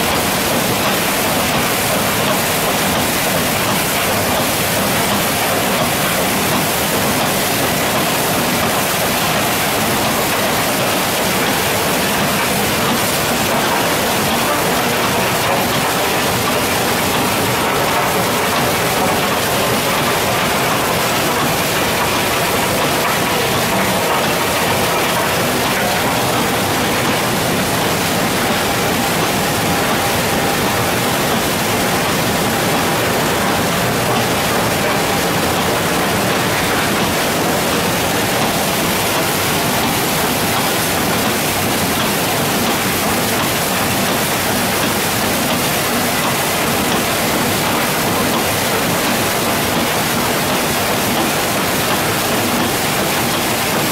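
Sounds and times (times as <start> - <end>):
machinery running: 0.0 - 53.9
water and slurry rushing: 0.0 - 53.9.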